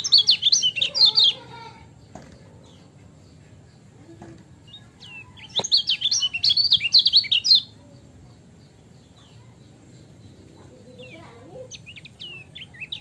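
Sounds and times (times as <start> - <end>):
bird singing high chirps: 0.0 - 13.0.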